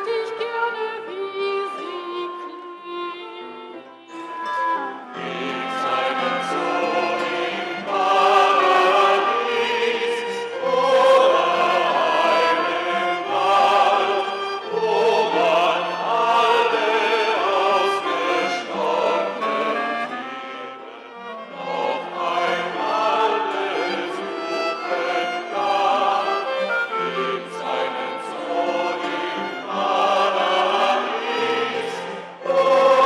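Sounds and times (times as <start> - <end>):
mixed choir singing in harmony: 4.1 - 33.0.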